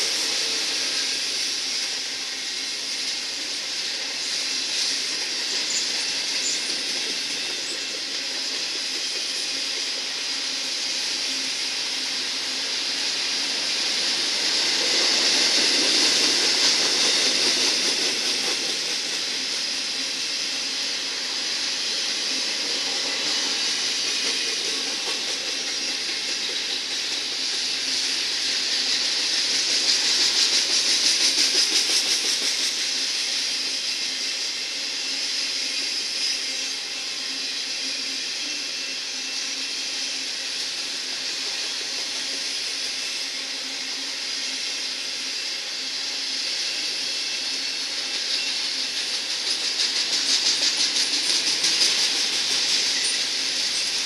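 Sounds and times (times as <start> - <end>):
steel wheels rolling on rail: 0.0 - 54.0.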